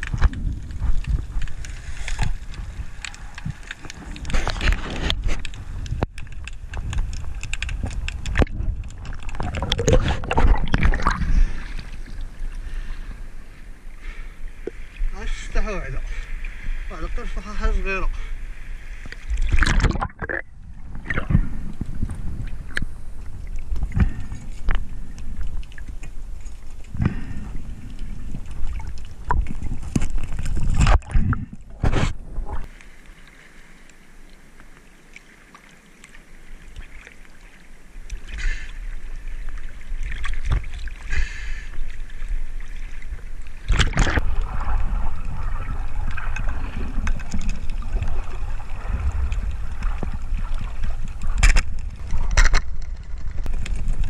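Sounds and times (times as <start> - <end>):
seawater sloshing and splashing: 0.0 - 54.0.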